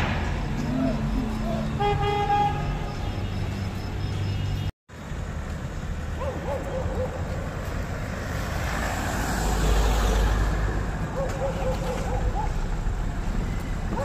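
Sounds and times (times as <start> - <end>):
passing cars rumbling: 0.0 - 14.0.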